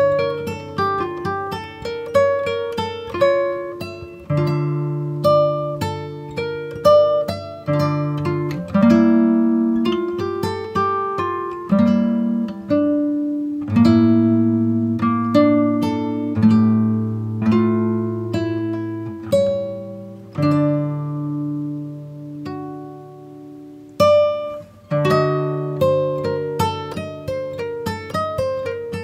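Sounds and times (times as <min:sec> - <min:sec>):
guitar melody: 0:00.0 - 0:29.0.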